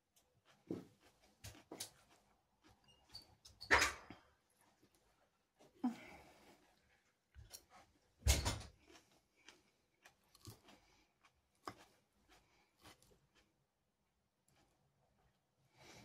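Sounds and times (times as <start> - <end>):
chewing salad: 0.0 - 16.0.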